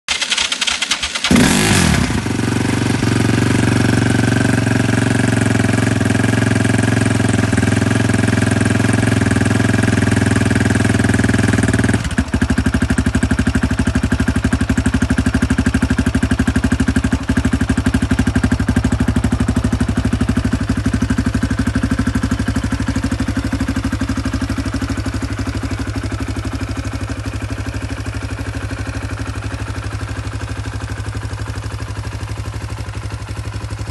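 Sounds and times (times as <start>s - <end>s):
motorcycle engine starting and running: 0.0s - 33.9s.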